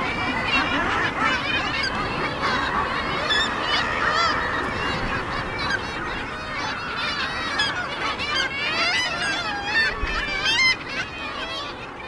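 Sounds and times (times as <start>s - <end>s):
seabird colony calling: 0.0s - 12.0s.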